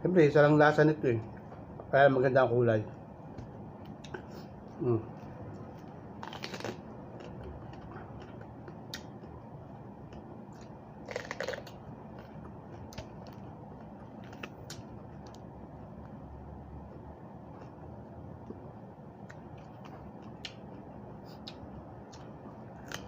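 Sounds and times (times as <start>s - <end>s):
low room hiss: 0.0s - 23.0s
person chewing raw vegetables: 3.4s - 16.2s, 16.8s - 23.0s.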